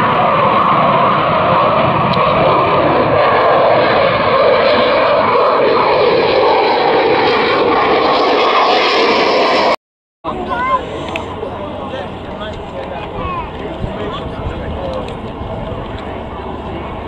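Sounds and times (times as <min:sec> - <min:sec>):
loud jet engine roar: 0:00.0 - 0:17.0.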